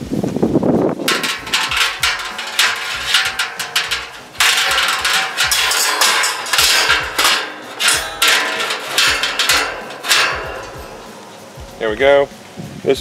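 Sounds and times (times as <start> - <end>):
wire grate clanking in steel drum: 1.1 - 12.2.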